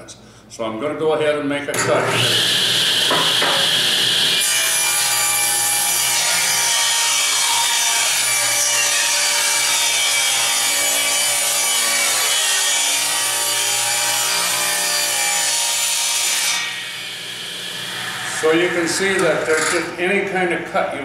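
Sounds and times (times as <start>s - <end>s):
table saw cutting board: 1.8s - 20.1s.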